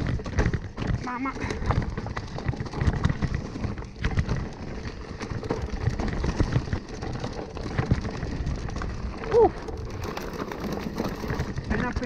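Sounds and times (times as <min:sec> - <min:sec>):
bike rattling: 0:00.0 - 0:12.0
bike tyres crunching over stones: 0:00.0 - 0:12.0.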